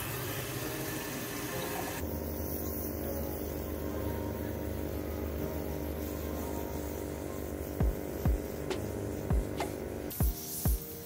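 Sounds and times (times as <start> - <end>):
pump motor humming: 0.0 - 10.1
water spraying: 0.0 - 11.0.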